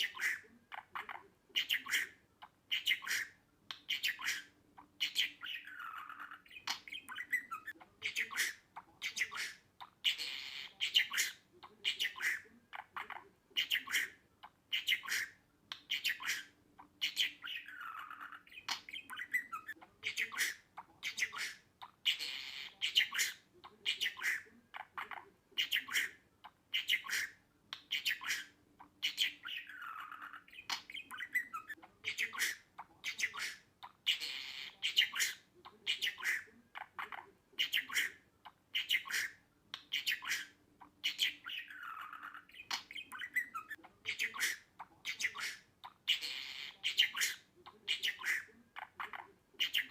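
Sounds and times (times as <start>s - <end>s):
budgerigar chirping: 0.0s - 49.9s.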